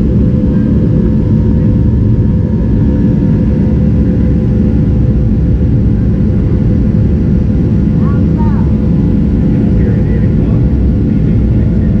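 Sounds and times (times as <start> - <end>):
jet engine rumble in cabin: 0.0 - 12.0
steady engine hum: 0.0 - 12.0.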